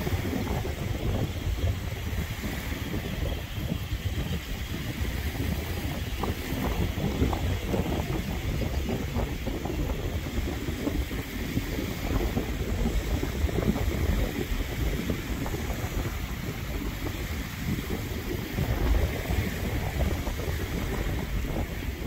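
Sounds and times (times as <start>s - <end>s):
small waves washing on shore: 0.0s - 22.0s
wind buffeting microphone: 0.0s - 22.0s.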